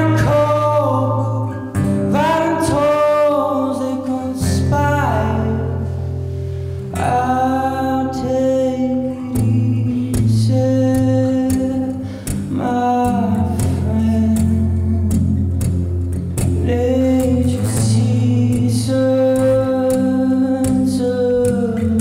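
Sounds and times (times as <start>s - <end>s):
man singing: 0.0s - 6.0s, 6.9s - 22.0s
acoustic guitar strumming: 0.0s - 22.0s.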